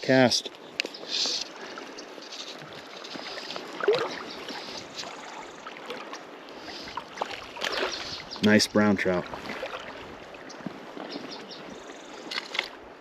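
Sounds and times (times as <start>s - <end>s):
river water lapping around legs: 0.0s - 13.0s.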